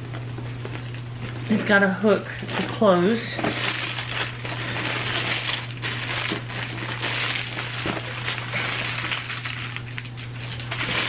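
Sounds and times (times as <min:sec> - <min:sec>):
low electrical hum: 0:00.0 - 0:11.0
plastic packaging crinkling: 0:00.0 - 0:11.0.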